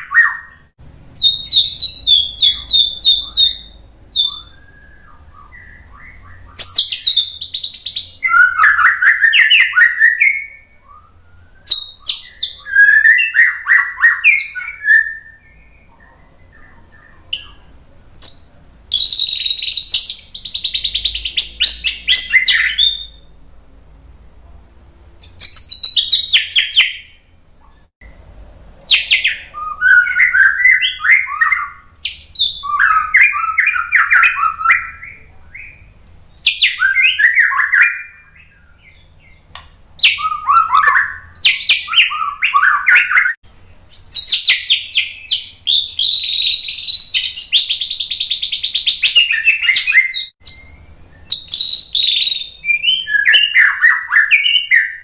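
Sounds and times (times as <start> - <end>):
bird singing whistled phrases: 0.0 - 23.3, 25.2 - 27.9, 28.8 - 39.4, 40.0 - 55.0.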